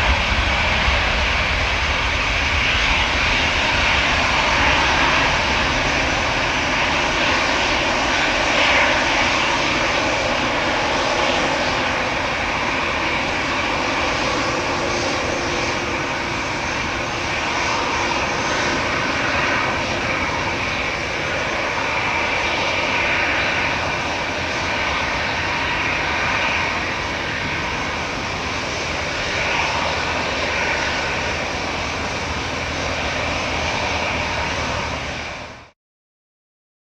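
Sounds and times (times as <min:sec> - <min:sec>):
jet airliner taking off: 0:00.0 - 0:35.8.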